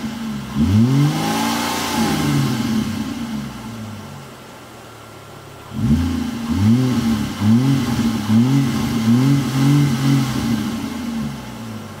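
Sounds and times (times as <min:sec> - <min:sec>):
car engine revving in blips: 0:00.0 - 0:04.4, 0:05.5 - 0:12.0.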